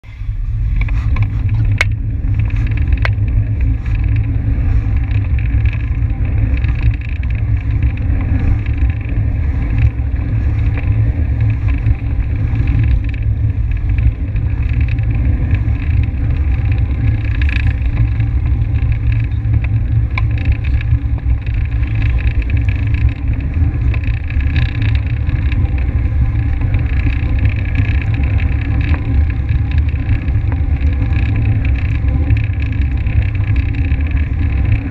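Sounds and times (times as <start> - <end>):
wind rumble on microphone: 0.0 - 34.9.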